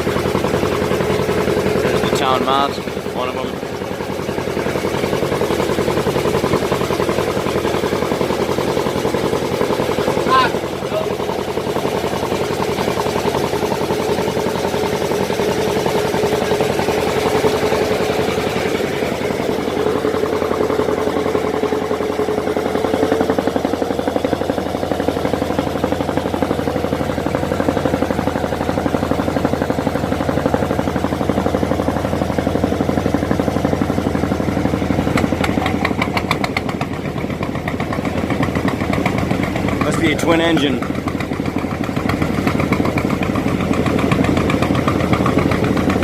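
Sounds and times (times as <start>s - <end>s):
boat engine chugging: 0.0s - 46.0s.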